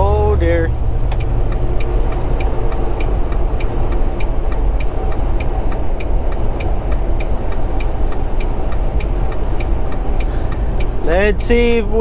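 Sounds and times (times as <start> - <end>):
truck engine and road rumble: 0.0 - 12.0
turn signal ticking: 0.0 - 12.0.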